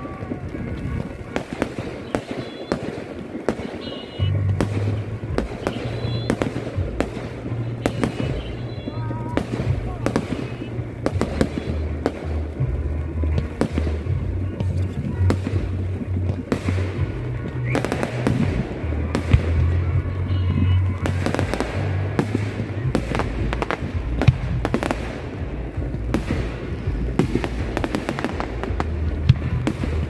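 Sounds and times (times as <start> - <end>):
fireworks bangs and crackles: 0.0 - 30.0
music with deep bass: 4.2 - 30.0.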